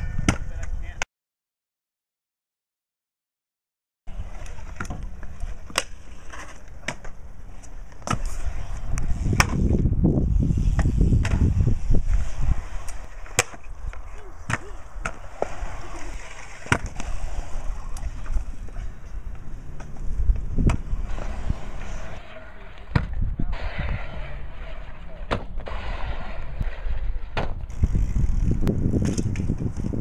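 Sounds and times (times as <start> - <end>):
scooter wheels rolling on concrete: 4.1 - 30.0.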